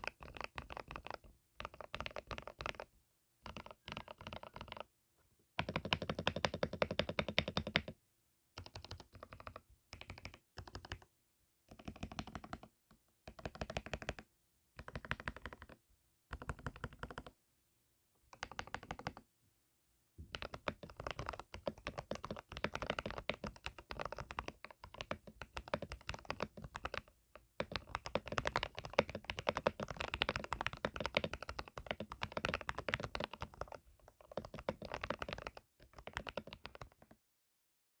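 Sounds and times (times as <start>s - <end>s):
mechanical keyboard typing: 0.0s - 4.9s, 5.6s - 8.0s, 8.6s - 11.1s, 11.7s - 14.2s, 14.8s - 17.3s, 18.3s - 19.2s, 20.3s - 37.2s.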